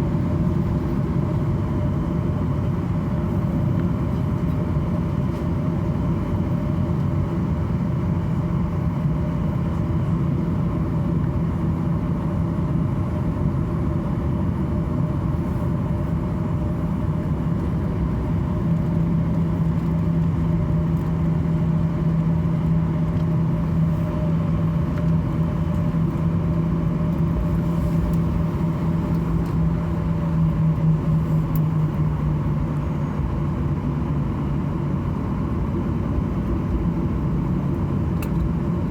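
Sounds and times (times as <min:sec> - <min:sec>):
aircraft cabin drone: 0:00.0 - 0:38.9.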